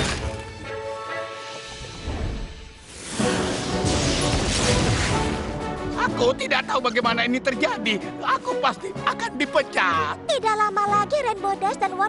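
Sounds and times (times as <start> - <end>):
cartoon soundtrack music: 0.0 - 12.0.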